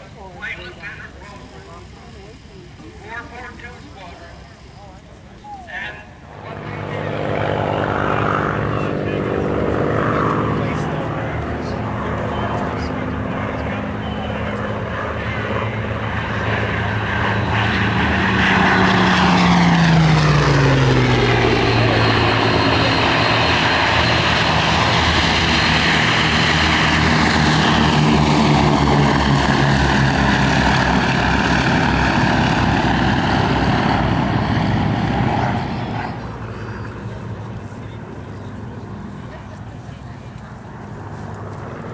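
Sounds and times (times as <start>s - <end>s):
propeller plane engines droning: 0.0s - 41.9s.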